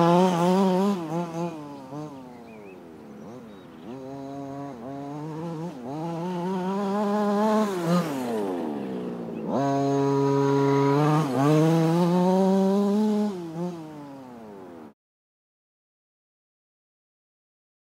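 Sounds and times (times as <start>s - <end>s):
rc car engine revving: 0.0s - 14.9s.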